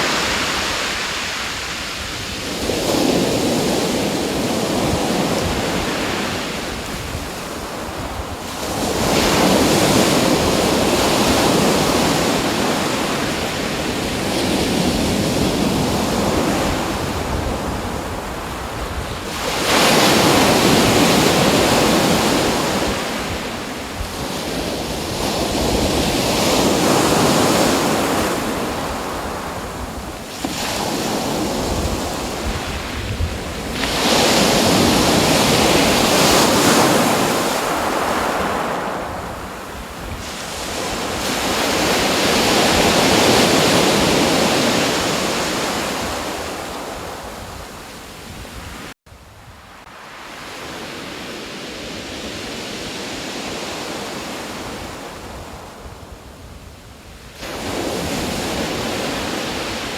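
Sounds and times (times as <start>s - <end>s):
sea waves breaking: 0.0s - 49.0s
wind: 0.0s - 59.9s.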